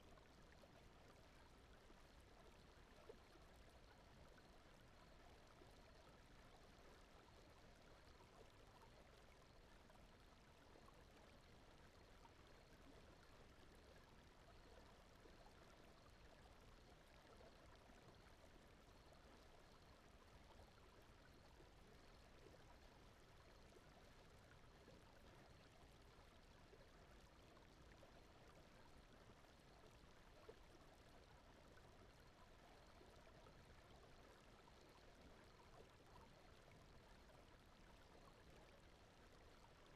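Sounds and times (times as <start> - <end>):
faint brown noise: 0.0 - 39.9.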